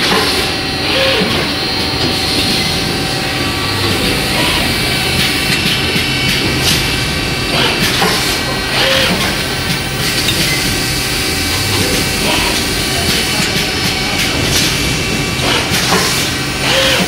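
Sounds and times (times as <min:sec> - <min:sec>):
machine mechanical hum: 0:00.0 - 0:17.0
pneumatic gripper air hisses: 0:00.0 - 0:17.0.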